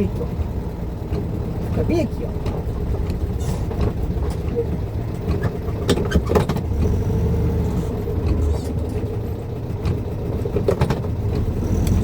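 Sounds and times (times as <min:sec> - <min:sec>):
car engine running slowly: 0:00.0 - 0:12.0.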